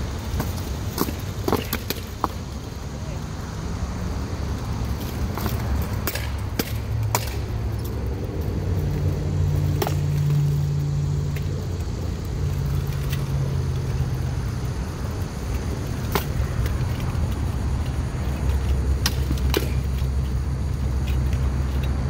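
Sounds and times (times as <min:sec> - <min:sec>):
low vehicle drone: 0:02.4 - 0:22.0.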